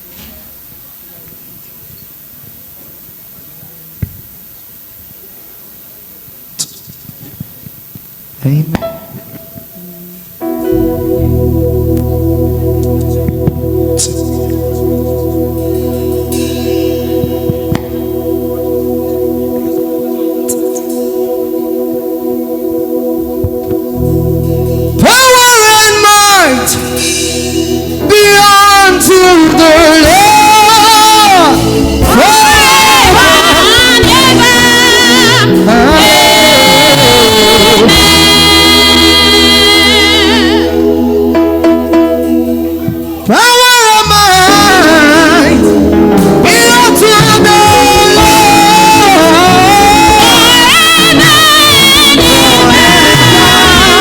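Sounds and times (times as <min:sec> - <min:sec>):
sustained organ chords: 0:08.3 - 0:54.0
lead voice singing gospel: 0:08.4 - 0:54.0
band accompaniment: 0:08.5 - 0:54.0.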